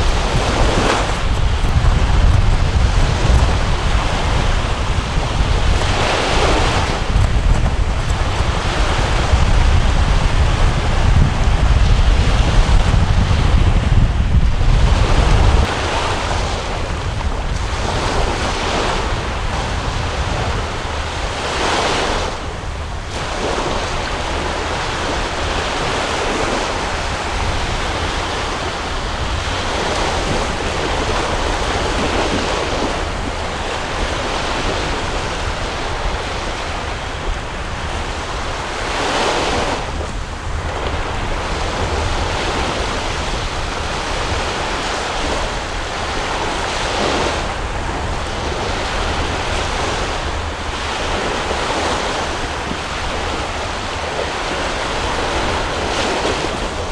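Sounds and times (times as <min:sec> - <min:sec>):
choppy sea waves: 0:00.0 - 0:56.9
wind buffeting microphone: 0:00.0 - 0:56.9.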